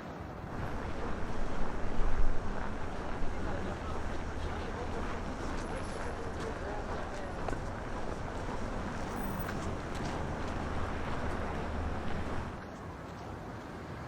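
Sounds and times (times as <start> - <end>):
wind buffeting microphone: 0.4 - 12.6.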